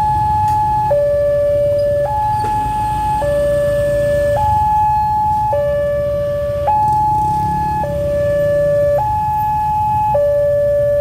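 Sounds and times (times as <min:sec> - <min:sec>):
low traffic rumble: 0:00.0 - 0:11.0
two-tone level crossing alarm: 0:00.0 - 0:11.0.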